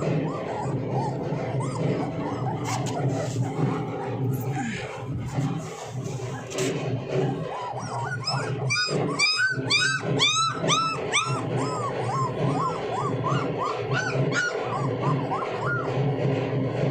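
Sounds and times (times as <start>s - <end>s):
puppies whining and yelping: 0.0s - 16.9s.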